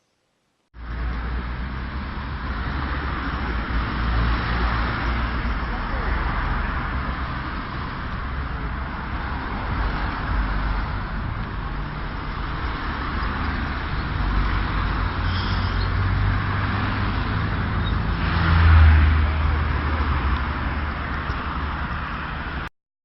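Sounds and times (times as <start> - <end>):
cars passing: 0.8 - 22.7
low engine rumble: 0.8 - 22.7.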